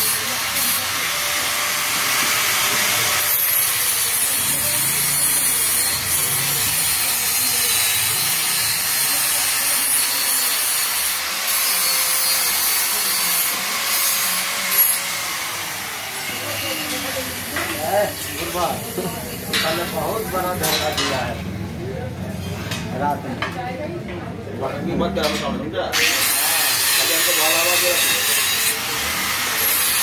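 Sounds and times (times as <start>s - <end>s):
power tool grinding steel: 0.0s - 21.3s, 25.3s - 30.0s.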